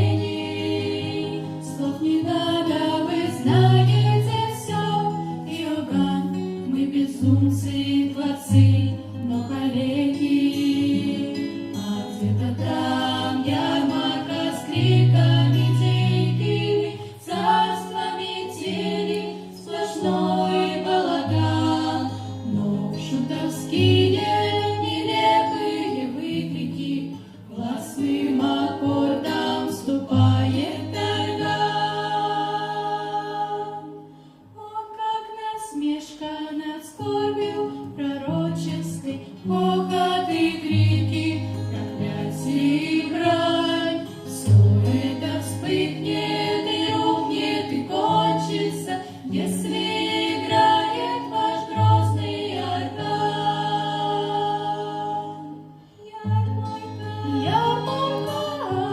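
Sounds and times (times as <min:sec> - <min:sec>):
vocal ensemble singing: 0:00.0 - 0:58.9.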